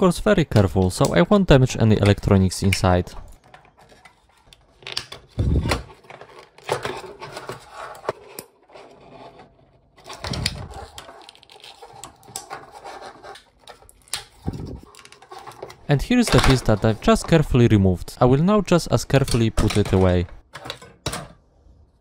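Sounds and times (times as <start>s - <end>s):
plastic clicking and creaking: 0.5s - 8.6s, 10.0s - 17.6s, 19.0s - 21.4s.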